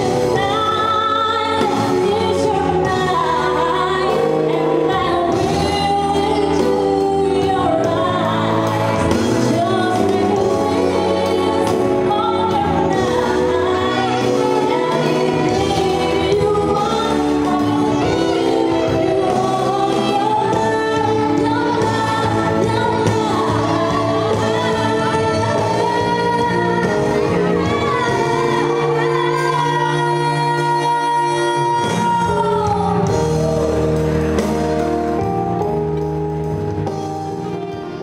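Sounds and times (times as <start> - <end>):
woman singing: 0.0 - 34.4
drums: 0.0 - 38.0
electric bass: 0.0 - 38.0
keyboard: 0.0 - 38.0
saxophone: 0.0 - 38.0.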